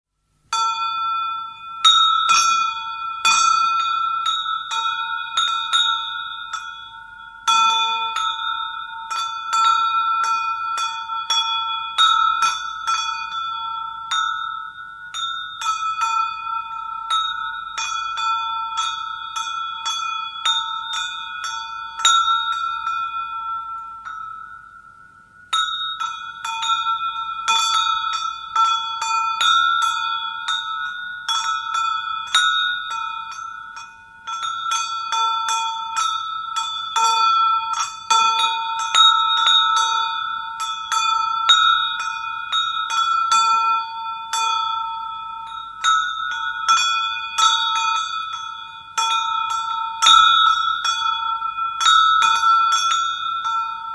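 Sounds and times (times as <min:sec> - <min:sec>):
camel bell ringing: 0:00.5 - 0:53.9.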